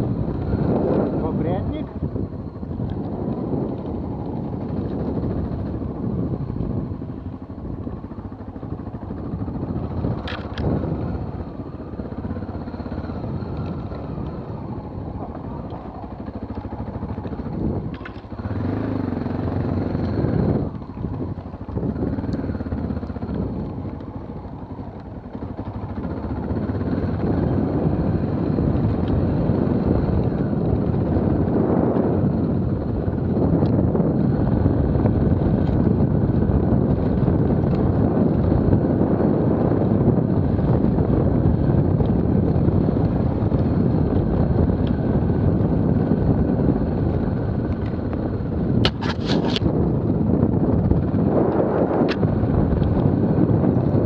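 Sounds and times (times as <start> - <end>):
motorcycle engine running: 0.0 - 54.0
rumble from riding on dirt: 0.0 - 54.0.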